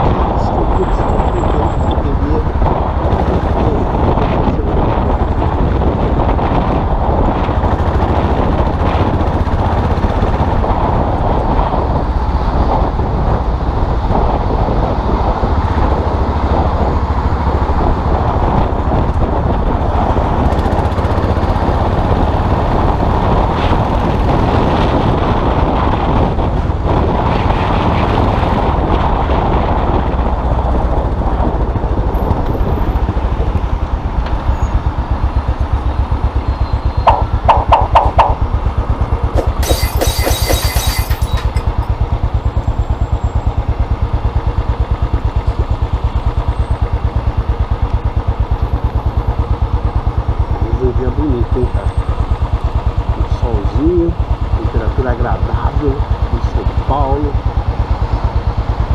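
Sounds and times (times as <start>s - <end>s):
motorcycle engine running: 0.0s - 58.9s
road noise: 0.0s - 58.9s
wind: 0.0s - 58.9s.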